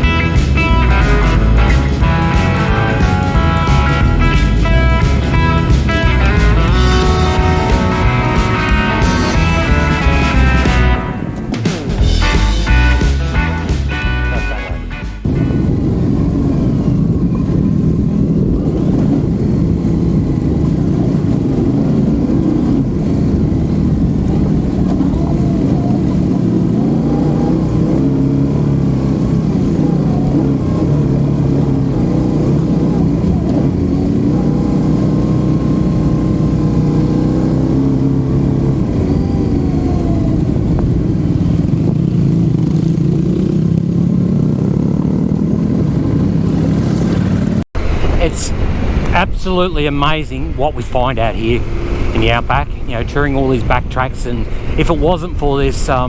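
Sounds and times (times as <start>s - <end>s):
motorcycle engine revving: 0.0s - 48.3s, 51.3s - 55.2s.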